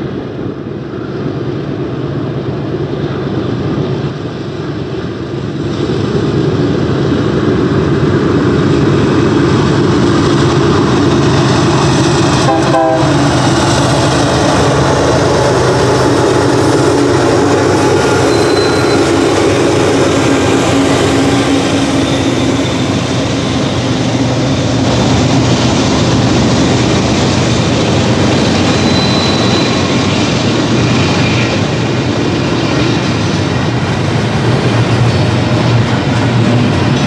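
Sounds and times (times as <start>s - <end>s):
freight train wheels rumbling on rails: 0.0s - 37.0s.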